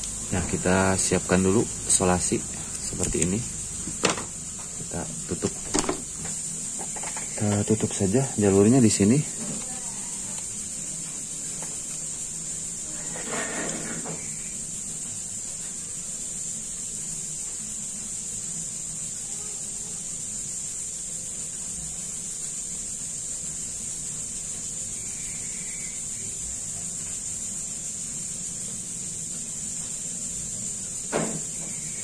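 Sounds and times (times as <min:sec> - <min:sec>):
steady high-pitched hiss: 0:00.0 - 0:32.0.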